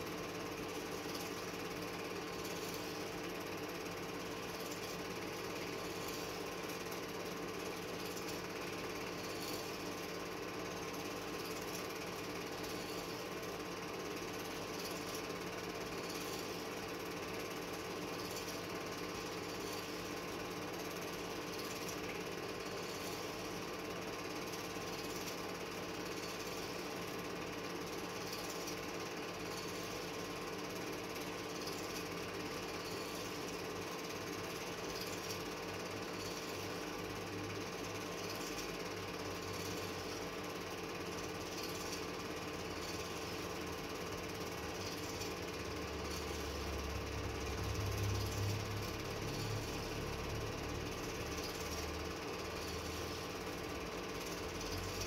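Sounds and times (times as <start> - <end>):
film projector clattering: 0.1 - 55.0.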